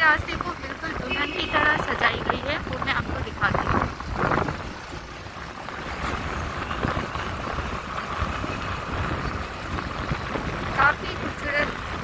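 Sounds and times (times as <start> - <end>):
low engine rumble: 0.0 - 12.0
wind and road noise: 0.0 - 12.0.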